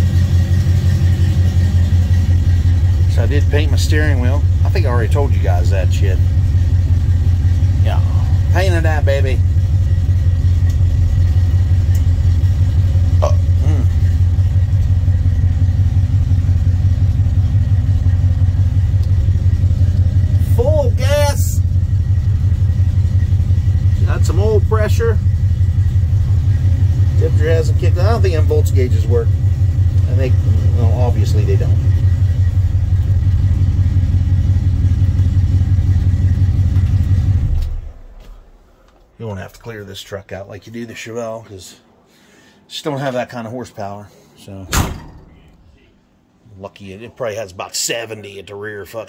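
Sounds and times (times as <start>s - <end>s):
truck engine idling: 0.0s - 39.2s, 44.6s - 46.4s.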